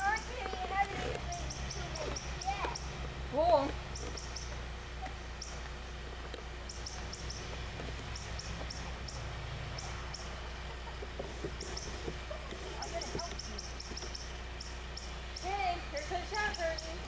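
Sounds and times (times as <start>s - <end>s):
low steady hum: 0.0s - 17.0s
small bird chirping: 0.0s - 17.0s.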